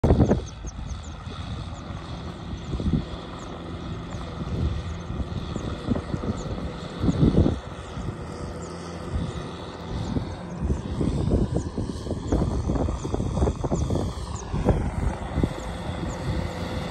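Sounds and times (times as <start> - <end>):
distant tractor engine drone: 0.0 - 16.9
wind rumbling on microphone: 0.0 - 16.9.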